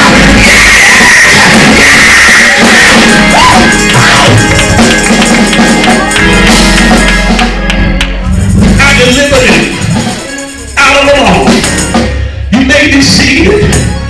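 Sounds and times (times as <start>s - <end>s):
live church praise band: 0.0s - 14.0s
percussion hits: 0.0s - 14.0s.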